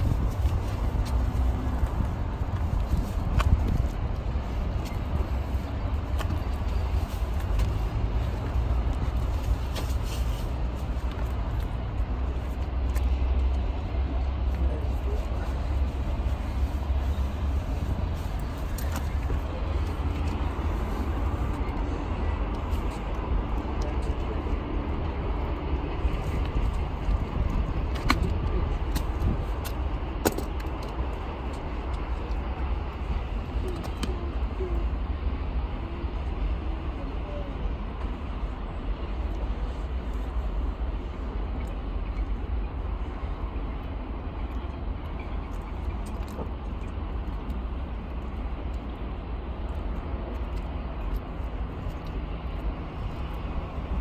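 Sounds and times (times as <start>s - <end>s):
low outdoor rumble: 0.0s - 54.0s
wind buffeting microphone: 0.0s - 54.0s.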